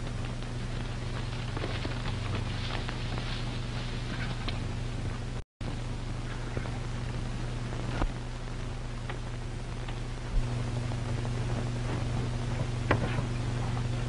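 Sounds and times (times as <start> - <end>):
faint clicks and crackles: 0.0 - 14.0
film soundtrack hum and hiss: 0.0 - 14.0.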